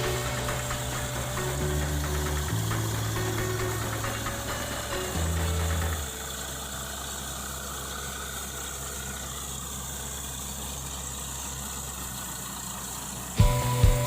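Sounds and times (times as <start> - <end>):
drilling rig engine running: 0.0 - 14.0.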